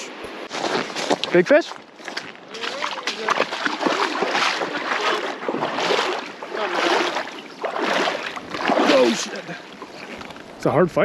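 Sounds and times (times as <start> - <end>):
river water rushing and lapping: 0.0 - 11.0.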